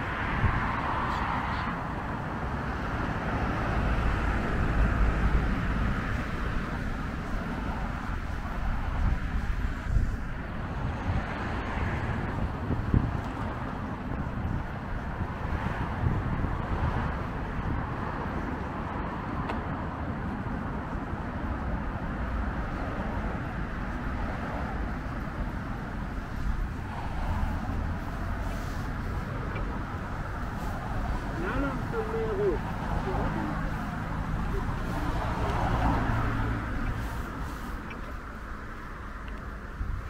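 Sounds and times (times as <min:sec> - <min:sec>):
road traffic rumble: 0:00.0 - 0:40.0.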